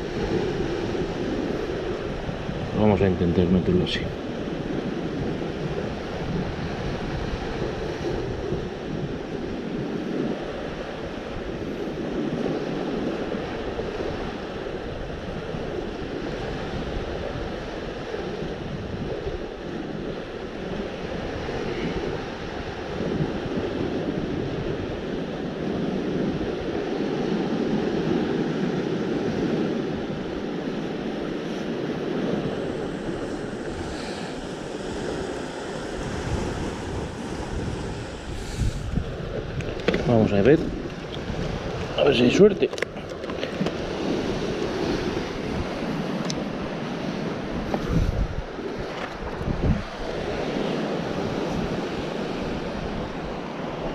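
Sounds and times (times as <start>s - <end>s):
sea waves washing ashore: 0.0s - 53.9s
wind buffeting microphone: 0.0s - 53.9s.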